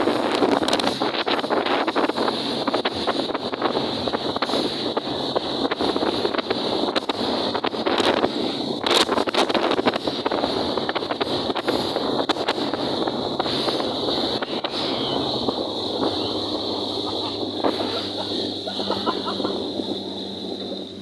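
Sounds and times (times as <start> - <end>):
churning water: 0.0 - 21.0
outboard motor running: 0.0 - 21.0
wind buffeting microphone: 0.0 - 21.0.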